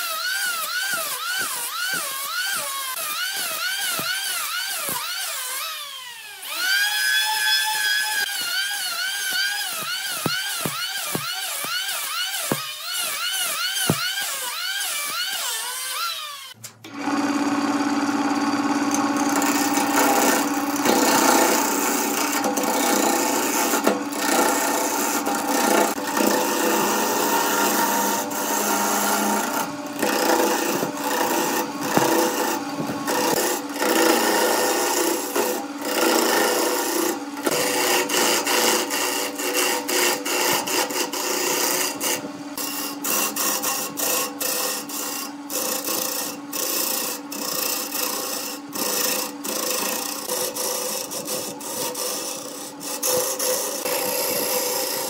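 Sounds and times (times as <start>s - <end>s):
chisel scraping rotating wood: 0.0s - 16.6s, 18.9s - 55.0s
electric planer whine: 0.0s - 55.0s
wood lathe motor hum: 0.0s - 55.0s.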